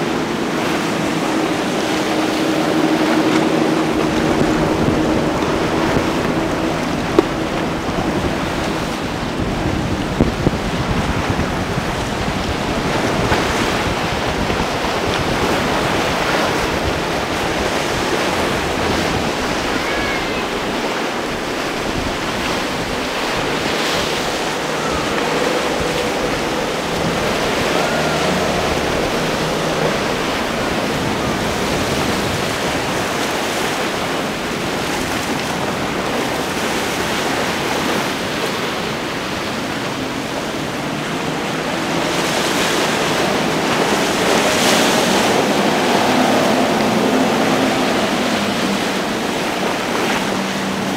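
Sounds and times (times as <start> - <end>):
sea water rushing and splashing: 0.0 - 50.9
wind buffeting microphone: 0.0 - 50.9.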